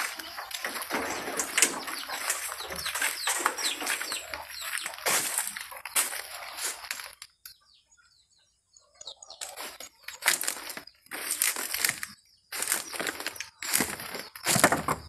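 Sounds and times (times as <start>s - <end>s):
leaves rustling and crunching: 0.0s - 7.3s, 9.4s - 14.9s
faint bird chirps: 0.0s - 15.0s.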